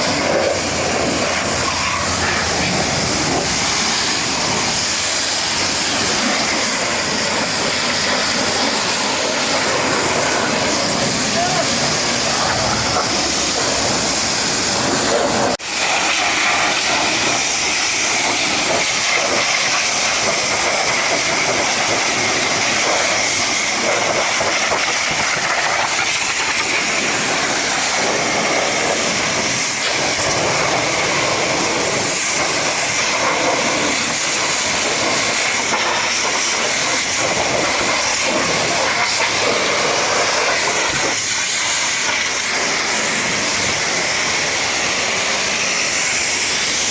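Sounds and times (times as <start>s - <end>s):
pressure washer spraying water: 0.0s - 46.9s.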